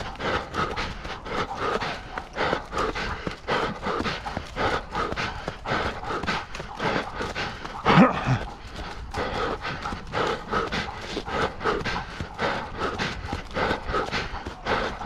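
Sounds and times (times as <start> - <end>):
runner breathing hard: 0.0 - 15.0
running footfalls: 0.0 - 15.0.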